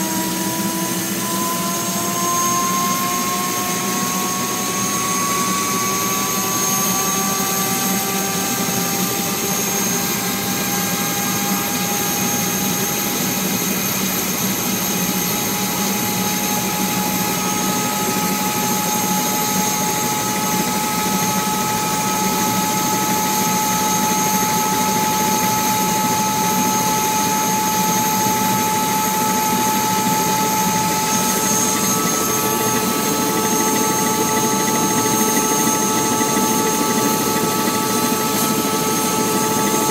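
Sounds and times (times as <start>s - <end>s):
helicopter engine whine: 0.0s - 39.9s
rotor and wind rush: 3.3s - 39.9s.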